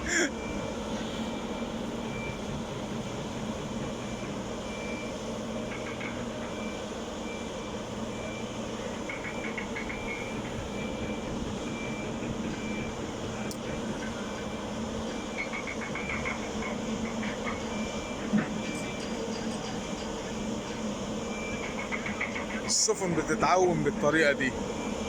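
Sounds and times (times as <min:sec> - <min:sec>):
heavy machinery running: 0:00.0 - 0:25.0.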